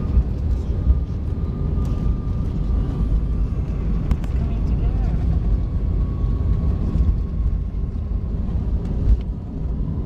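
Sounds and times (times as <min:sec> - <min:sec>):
jet engine and airflow rumble: 0:00.0 - 0:10.0.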